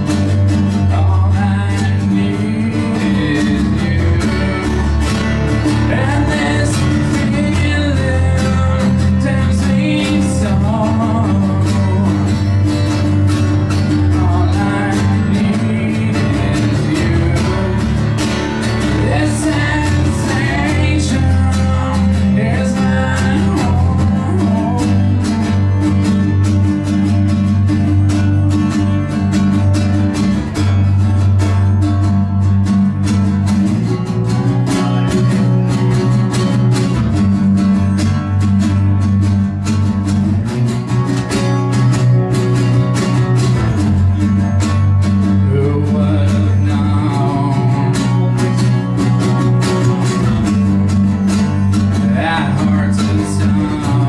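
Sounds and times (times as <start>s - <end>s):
steady low bass part: 0.0s - 54.0s
strummed acoustic guitars: 0.0s - 54.0s.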